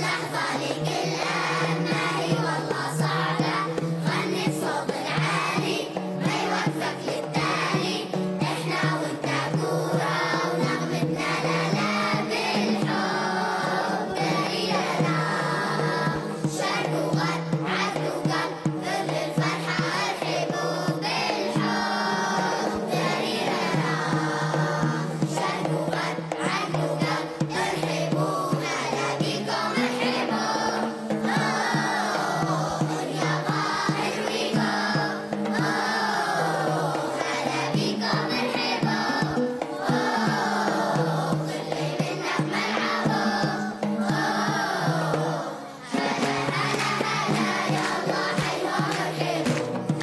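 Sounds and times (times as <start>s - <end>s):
children singing together: 0.0s - 50.0s
instrumental backing with drumbeat: 0.0s - 50.0s
oud: 0.0s - 50.0s
steady percussion beat: 0.0s - 50.0s.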